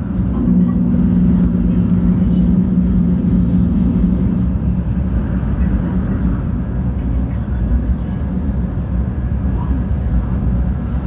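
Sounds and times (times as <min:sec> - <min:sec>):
low hum: 0:00.0 - 0:11.0
train cabin rumble: 0:00.0 - 0:11.0.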